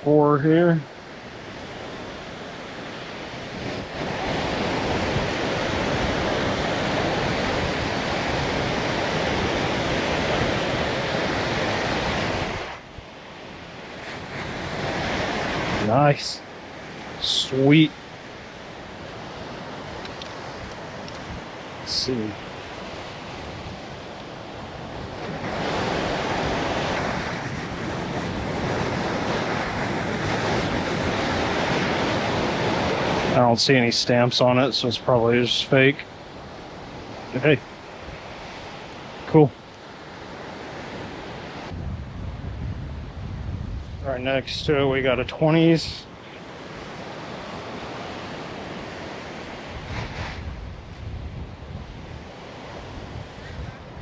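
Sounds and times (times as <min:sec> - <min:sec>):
breaking surf: 0:00.0 - 0:54.0
wind on the microphone: 0:01.3 - 0:33.4, 0:39.9 - 0:45.4, 0:46.1 - 0:54.0.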